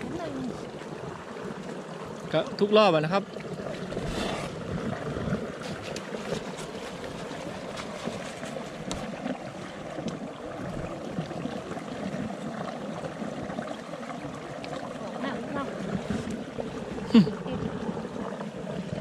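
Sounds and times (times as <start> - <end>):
moving water: 0.0 - 19.0
small ticks and splashes: 0.0 - 19.0.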